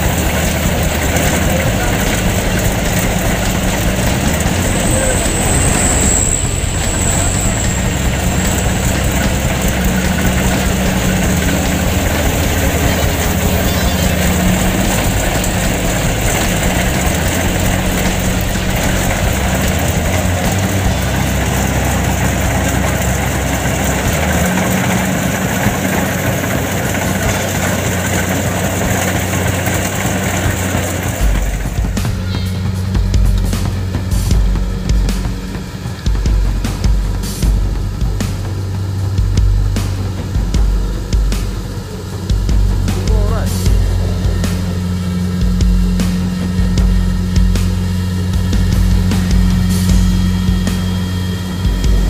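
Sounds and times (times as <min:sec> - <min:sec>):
diesel engine hum: 0:00.0 - 0:52.0
machinery noise: 0:00.0 - 0:52.0.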